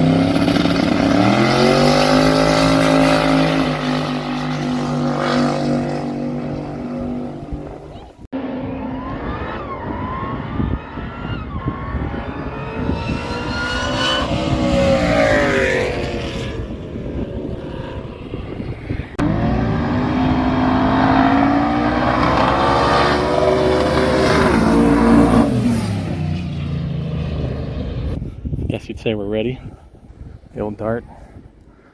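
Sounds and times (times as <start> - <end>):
racing car engines revving: 0.0 - 28.2.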